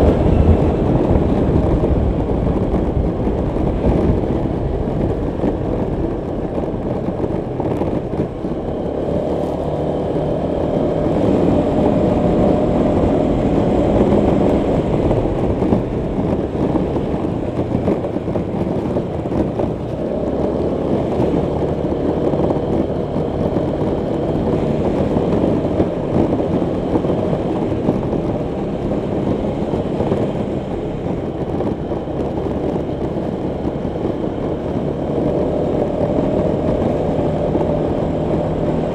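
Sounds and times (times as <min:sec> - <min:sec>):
road and wind noise: 0:00.0 - 0:38.9
scooter engine running: 0:00.0 - 0:38.9.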